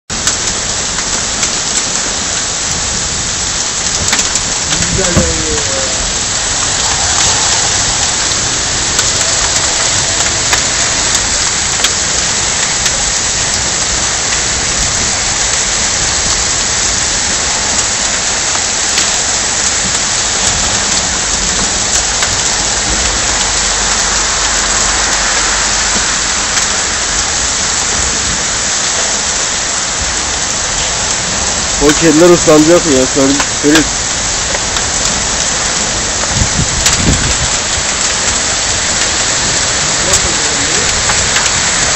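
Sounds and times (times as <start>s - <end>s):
heavy rain on pavement: 0.1s - 41.9s.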